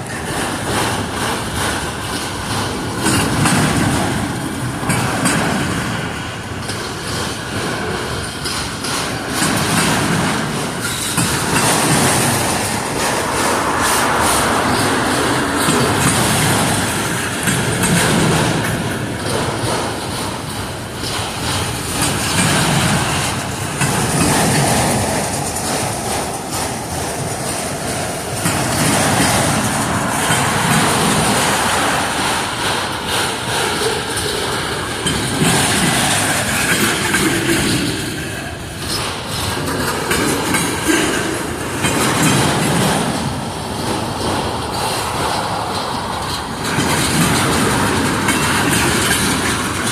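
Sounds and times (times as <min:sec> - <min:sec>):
train wheels rumbling on rail: 0:00.0 - 0:49.9
wheels clacking over rail joints: 0:00.0 - 0:49.9.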